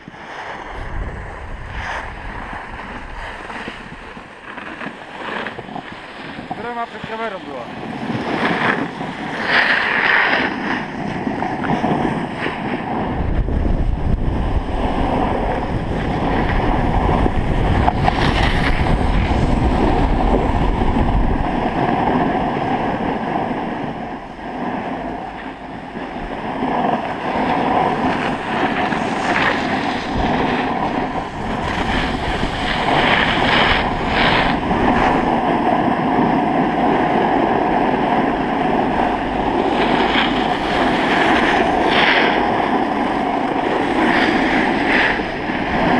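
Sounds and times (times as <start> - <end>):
sliding over packed snow: 0.0 - 45.9
wind buffeting microphone: 0.0 - 45.9.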